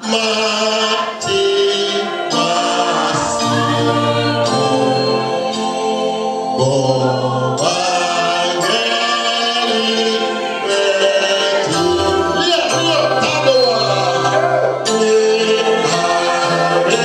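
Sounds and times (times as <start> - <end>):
man singing into microphone: 0.0 - 5.8, 6.5 - 17.0
choir singing gospel: 0.0 - 17.0
held low accompanying notes: 1.2 - 17.0.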